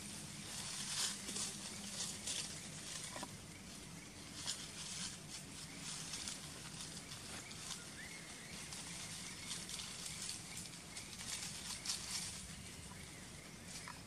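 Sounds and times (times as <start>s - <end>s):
clicks and rustles in leaves: 0.0s - 14.0s.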